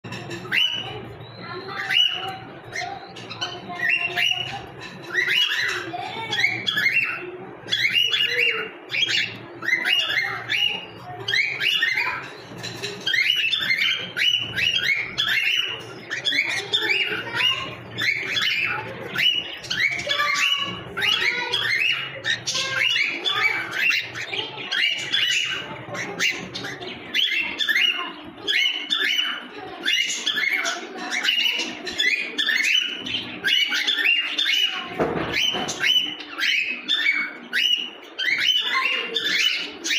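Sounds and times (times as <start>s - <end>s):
cockatiels chirping: 0.1s - 39.9s.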